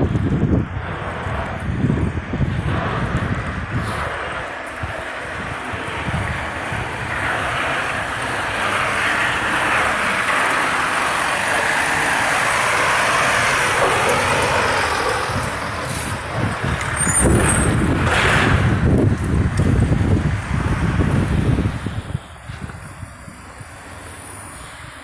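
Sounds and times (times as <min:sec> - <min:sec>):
road vehicle passing: 0:00.0 - 0:25.0
wind buffeting microphone: 0:00.0 - 0:25.0.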